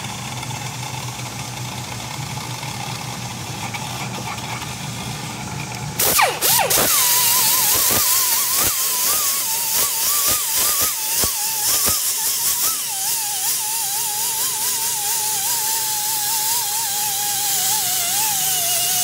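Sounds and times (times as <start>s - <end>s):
vacuum motor whining: 3.6s - 19.0s.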